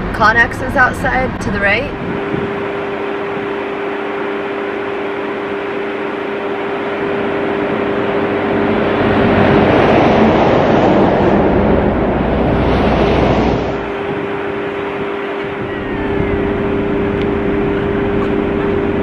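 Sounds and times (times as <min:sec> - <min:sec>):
steady low hum: 0:00.0 - 0:19.0
vehicle passing on highway: 0:00.0 - 0:19.0.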